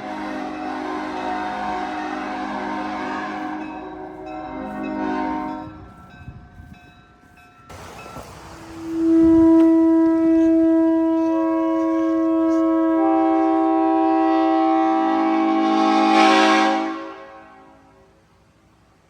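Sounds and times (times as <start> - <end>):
train horn chord: 0.0 - 6.7, 8.6 - 18.2.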